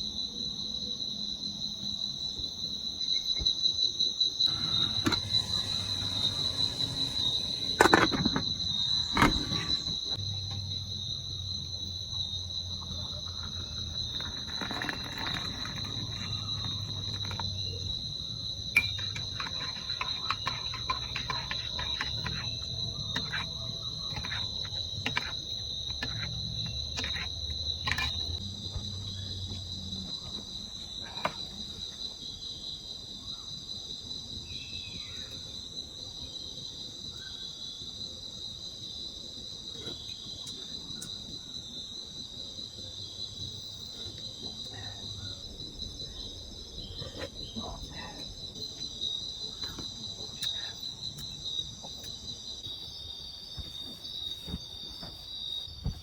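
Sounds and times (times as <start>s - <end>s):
insects chirping chorus: 0.0s - 56.0s.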